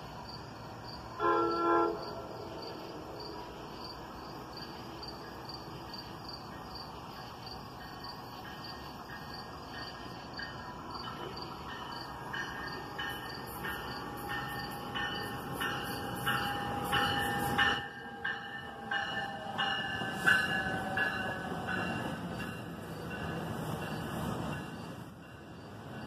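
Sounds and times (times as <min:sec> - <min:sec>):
crickets chirping: 0:00.0 - 0:26.0
train wheels clicking on rail joints: 0:00.0 - 0:26.0
train whine: 0:00.0 - 0:26.0.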